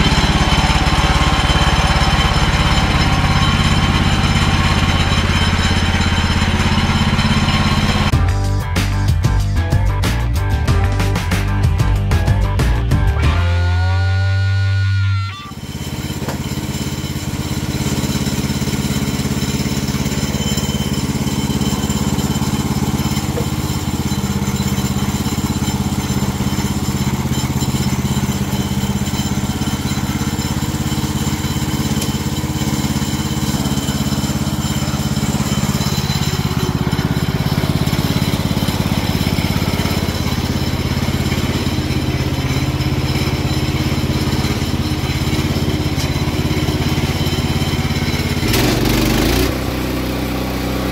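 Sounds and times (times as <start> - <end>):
sawmill petrol engine running: 0.0 - 50.9.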